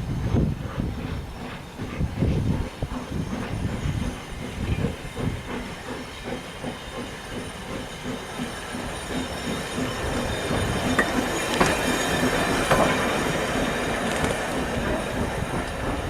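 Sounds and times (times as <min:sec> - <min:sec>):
steam train running: 0:00.0 - 0:16.0.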